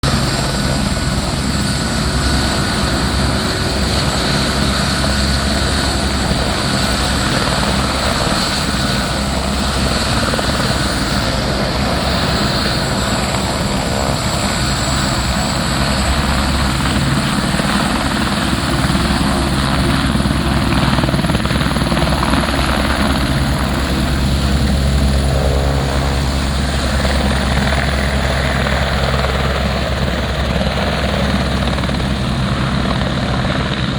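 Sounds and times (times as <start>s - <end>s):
helicopter rotor chop: 0.0s - 33.9s
helicopter turbine whine: 0.0s - 33.9s.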